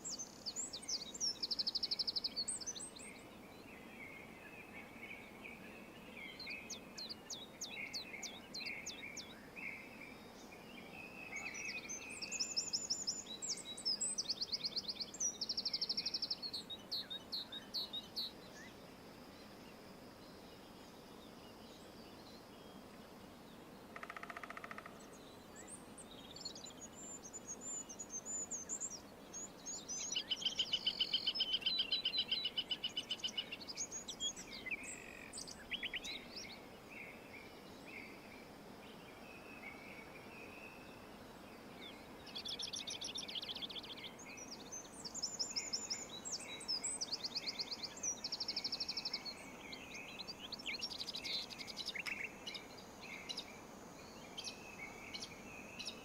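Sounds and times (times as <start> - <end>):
faint outdoor hiss: 0.0 - 56.0
songbirds singing: 0.0 - 56.0.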